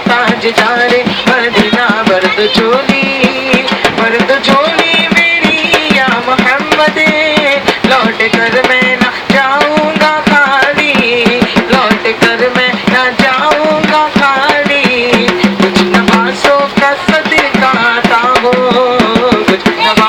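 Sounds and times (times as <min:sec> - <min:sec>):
frame drums beating: 0:00.0 - 0:20.0
men singing devotional song: 0:00.0 - 0:20.0.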